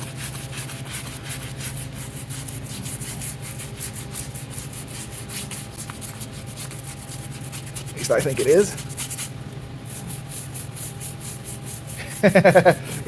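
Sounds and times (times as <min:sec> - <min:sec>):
brisk rhythmic scrubbing: 0:00.0 - 0:13.0
steady low hum: 0:00.0 - 0:13.0.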